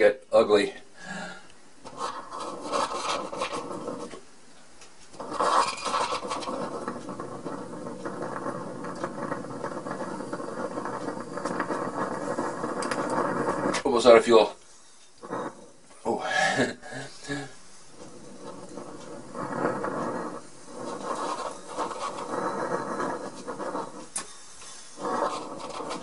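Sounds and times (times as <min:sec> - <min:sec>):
flame forced by blown air: 0:01.0 - 0:26.0.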